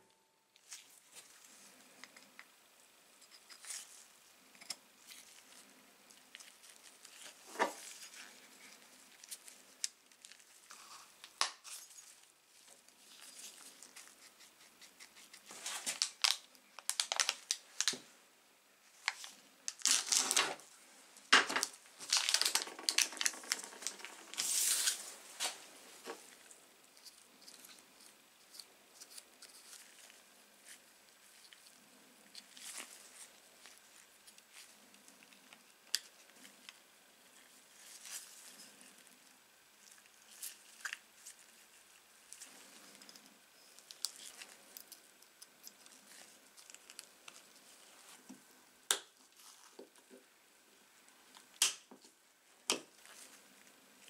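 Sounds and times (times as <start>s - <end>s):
rubber gloves rustling: 0.6s - 18.1s, 18.9s - 50.3s, 51.0s - 54.0s.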